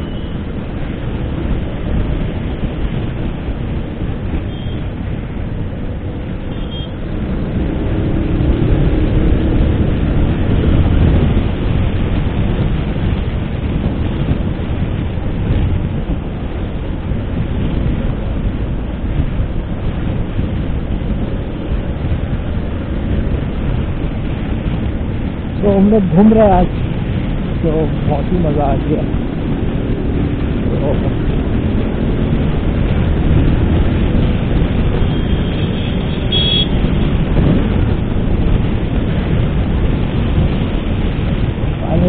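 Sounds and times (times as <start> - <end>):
motorcycle engine and road noise: 0.0 - 42.0
wind rushing over microphone: 0.0 - 42.0.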